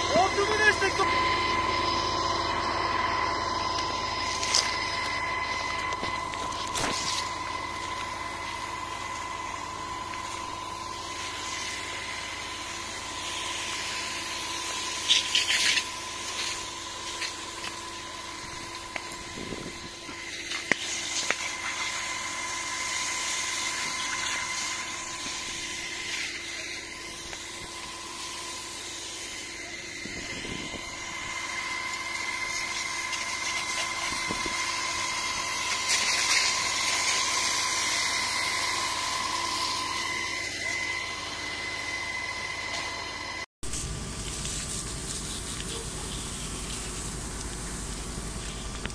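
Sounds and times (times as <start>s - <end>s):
fire engine pump humming: 0.0s - 48.9s
fire hose water hissing: 4.2s - 40.8s, 43.7s - 48.9s.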